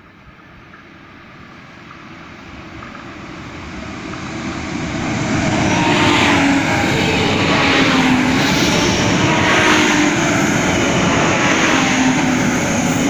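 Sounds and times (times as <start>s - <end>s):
diesel train engine: 0.0s - 13.0s
train wheel noise: 0.0s - 13.0s.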